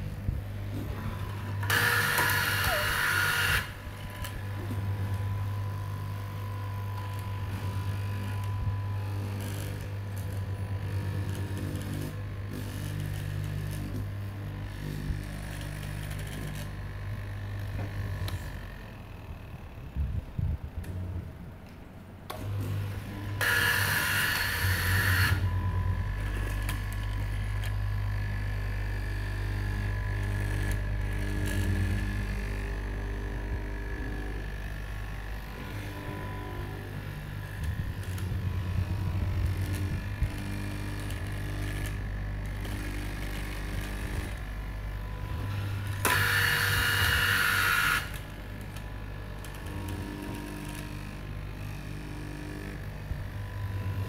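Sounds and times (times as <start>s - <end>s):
cloth cutting machine humming: 0.0s - 54.0s.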